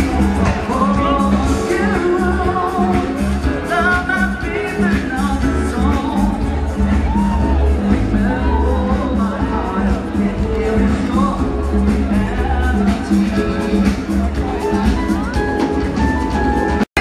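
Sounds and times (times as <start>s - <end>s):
live band playing pop dance music: 0.0s - 17.0s
person singing: 0.0s - 17.0s.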